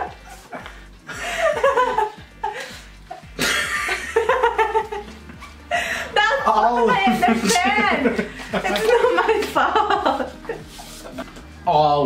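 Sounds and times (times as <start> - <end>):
man and woman laughing: 0.0 - 6.1, 6.7 - 11.4.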